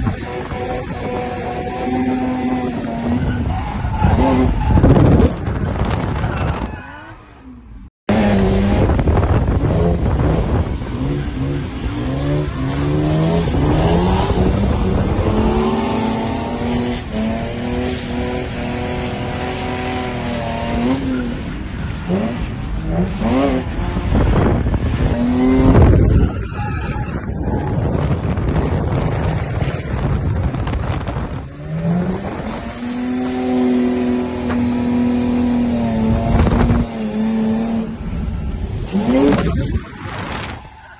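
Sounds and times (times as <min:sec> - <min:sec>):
wind rushing: 0:00.0 - 0:06.8, 0:08.2 - 0:40.9
car engine revving: 0:00.0 - 0:40.8.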